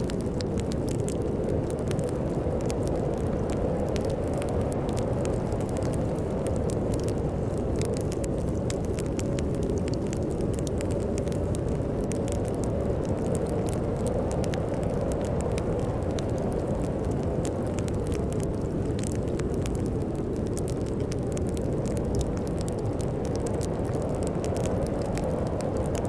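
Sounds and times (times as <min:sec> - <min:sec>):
storm wind blowing: 0:00.0 - 0:26.0
wood fire crackling: 0:00.0 - 0:26.0.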